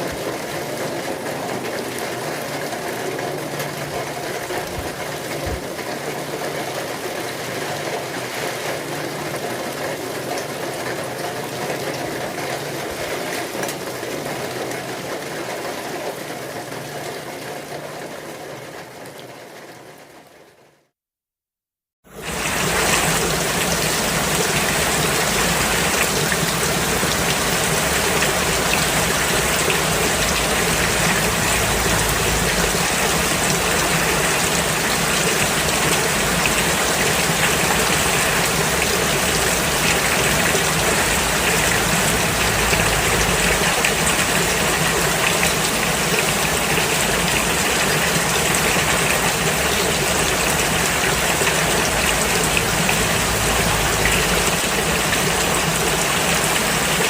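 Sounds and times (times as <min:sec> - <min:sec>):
steady dense rain: 0:00.0 - 0:20.8, 0:22.1 - 0:57.0.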